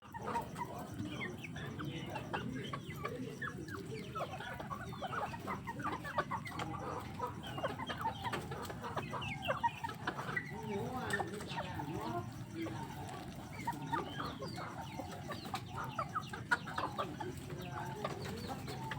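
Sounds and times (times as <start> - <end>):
chickens clucking: 0.0 - 18.9
low background noise: 0.0 - 18.9.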